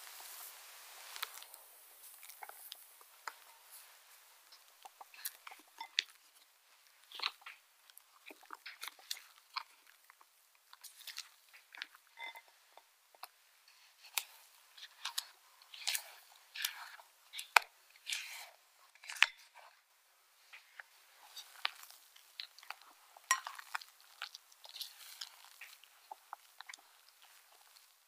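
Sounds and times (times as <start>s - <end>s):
spatula folding batter squishes: 0.0s - 28.0s.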